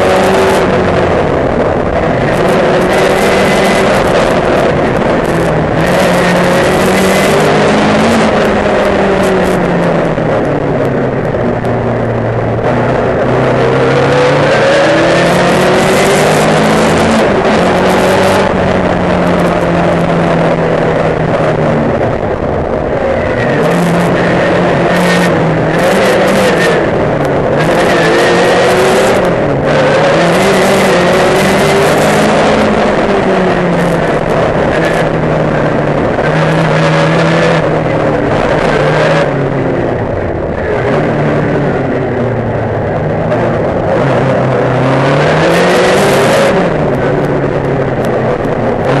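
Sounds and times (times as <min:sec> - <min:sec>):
racing car engine revving: 0:00.0 - 0:49.0.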